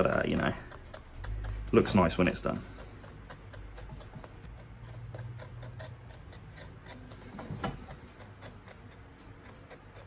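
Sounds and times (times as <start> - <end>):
utility knife cutting leather: 0.0 - 10.0.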